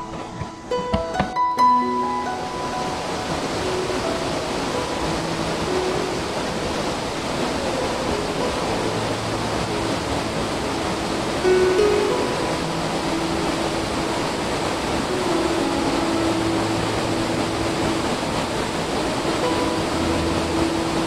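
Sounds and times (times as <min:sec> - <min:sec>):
waterfall rushing into pool: 0:00.0 - 0:21.0.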